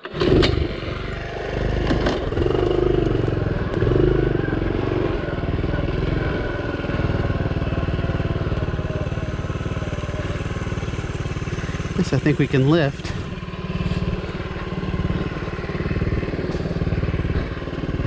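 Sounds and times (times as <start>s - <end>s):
small motorcycle engine revving: 0.0s - 18.0s.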